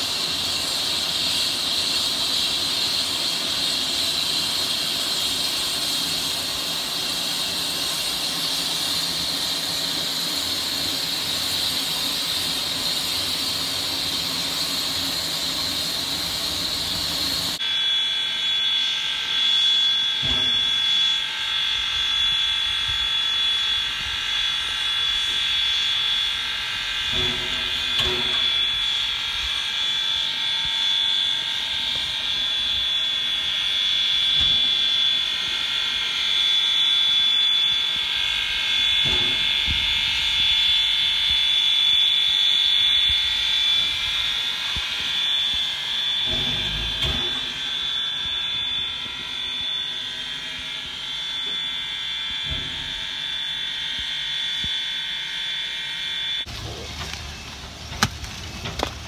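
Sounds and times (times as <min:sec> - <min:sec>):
high-pitched whine over hiss: 0:00.0 - 0:59.0.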